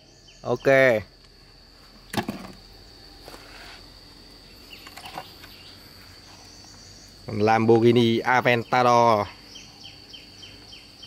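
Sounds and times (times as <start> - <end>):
high buzz of insects: 0.0 - 11.0.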